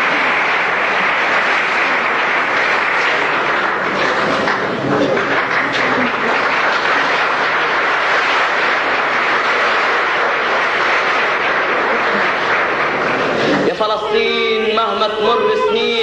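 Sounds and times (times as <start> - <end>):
audience applauding and cheering: 0.0 - 16.0.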